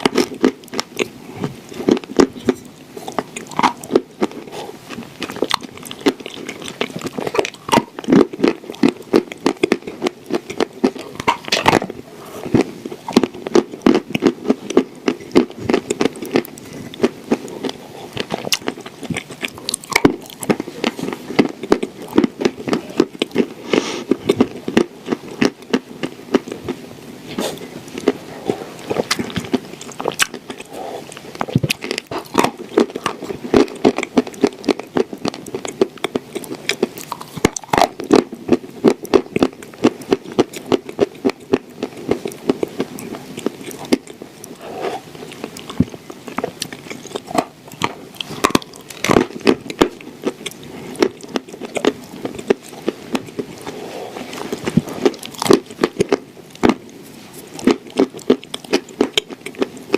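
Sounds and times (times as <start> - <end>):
cookies crunching while chewed: 0.0 - 59.9.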